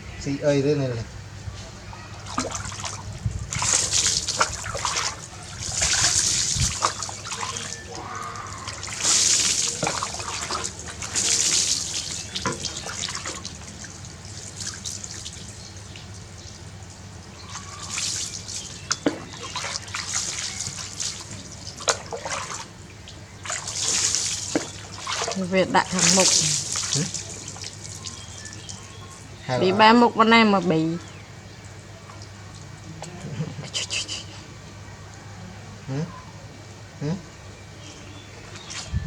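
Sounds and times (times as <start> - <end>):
water splashing: 1.8 - 34.2, 38.1 - 39.0.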